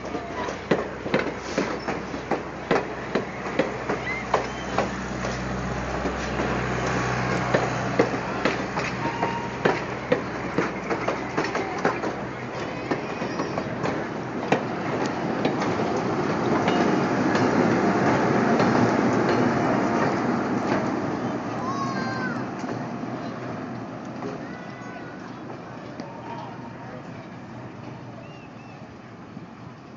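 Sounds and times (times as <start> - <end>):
train wheels clacking over rail joints: 0.0 - 26.2
diesel locomotive: 0.0 - 29.9
train rumble: 0.0 - 29.9.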